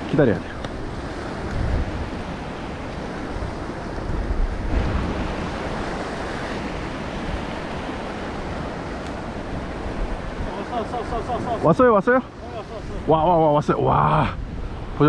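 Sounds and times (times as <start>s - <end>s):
wind rumbling on microphone: 0.0s - 15.0s
surf breaking on rocks: 1.0s - 13.8s.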